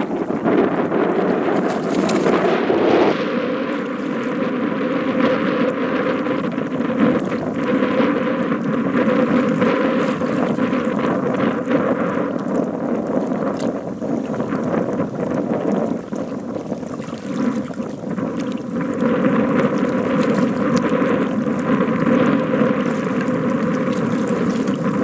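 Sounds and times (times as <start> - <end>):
water sloshing and splashing: 0.0 - 25.0
wind buffeting microphone: 0.0 - 25.0.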